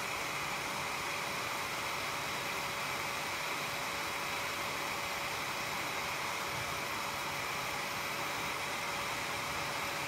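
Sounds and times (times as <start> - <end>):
cooling fans whirring: 0.0 - 10.0.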